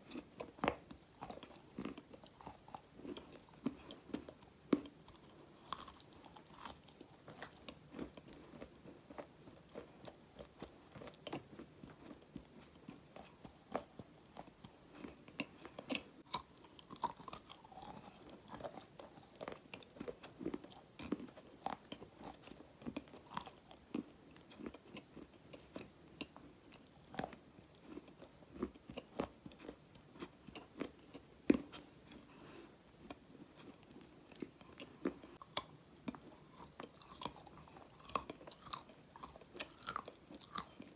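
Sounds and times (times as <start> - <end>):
crunching and chewing dry clay: 0.0 - 40.9.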